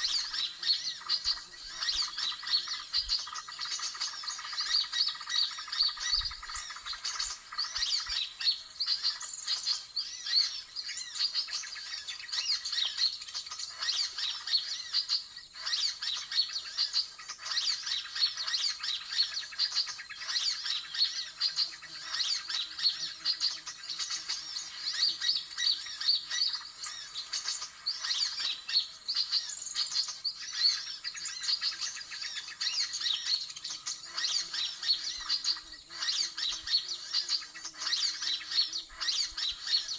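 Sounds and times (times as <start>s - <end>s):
small birds chirping in chorus: 0.0s - 39.9s.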